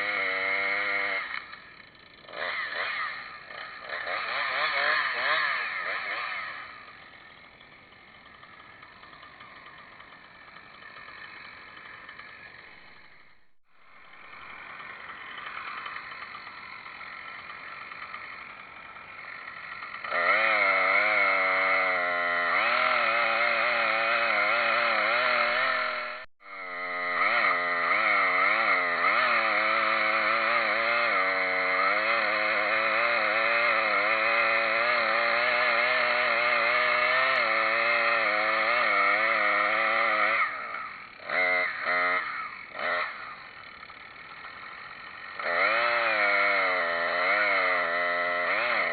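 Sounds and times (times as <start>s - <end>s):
chainsaw running: 0.0s - 48.9s.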